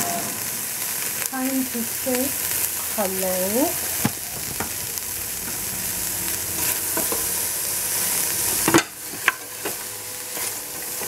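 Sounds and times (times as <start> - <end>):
vegetables sizzling in pot: 0.0 - 11.0.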